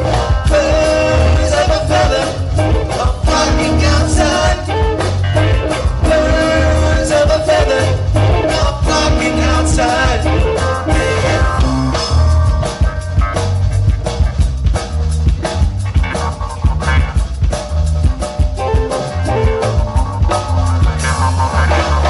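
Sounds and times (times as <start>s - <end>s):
bass guitar: 0.0s - 22.0s
drum kit beat: 0.0s - 22.0s
electric guitar: 0.0s - 22.0s
keyboards: 0.0s - 22.0s.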